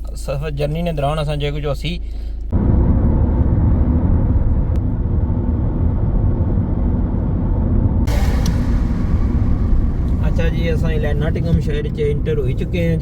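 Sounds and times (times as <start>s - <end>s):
car driving on road: 2.4s - 13.0s.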